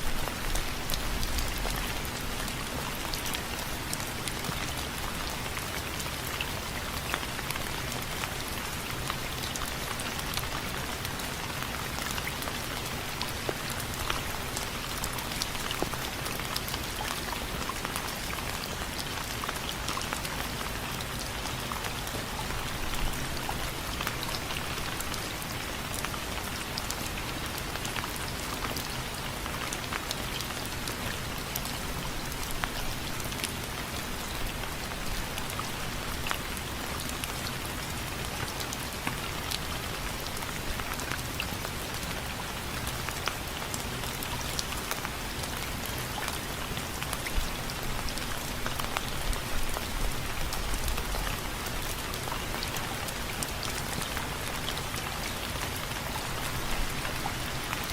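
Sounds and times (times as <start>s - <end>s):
rain on window frames: 0.0s - 57.9s.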